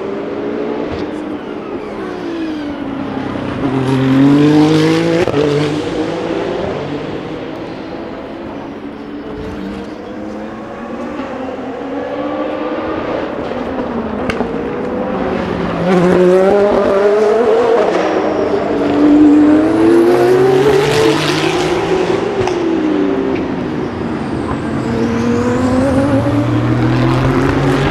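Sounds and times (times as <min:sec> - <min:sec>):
race car engines revving: 0:00.0 - 0:27.9.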